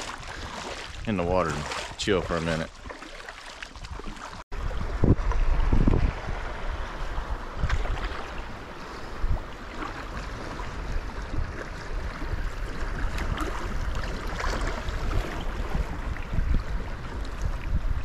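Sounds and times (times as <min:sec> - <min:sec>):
wind rumbling on microphone: 0:00.0 - 0:02.8, 0:03.6 - 0:18.0
water splashing against kayak hull: 0:00.0 - 0:18.0.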